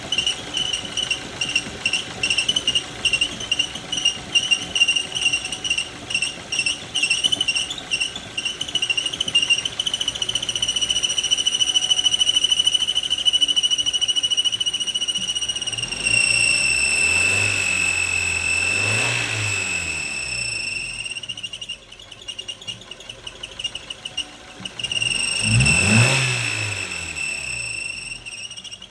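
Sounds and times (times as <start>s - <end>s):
car engine running: 0.0s - 28.9s
high-pitched car squeal: 0.0s - 28.9s.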